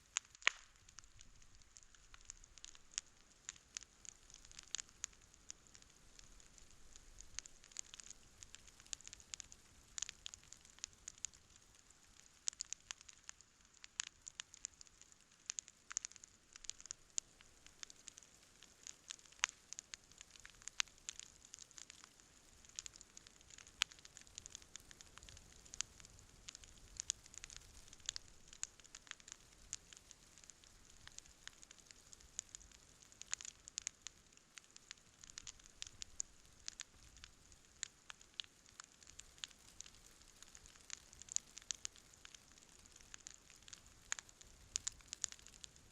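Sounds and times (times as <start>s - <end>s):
campfire crackling and popping: 0.0s - 45.9s
faint steady hiss: 0.0s - 45.9s.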